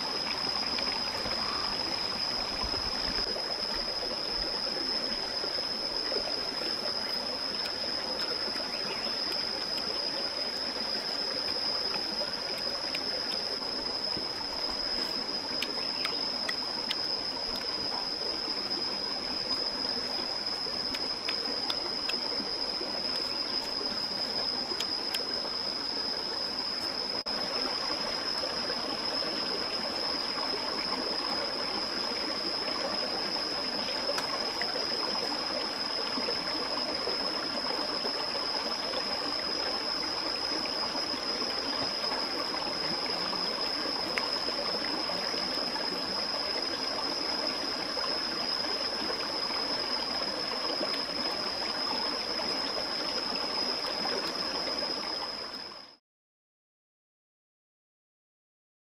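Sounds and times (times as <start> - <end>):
high-pitched whine: 0.0 - 56.0
stream rushing and trickling: 0.0 - 56.0.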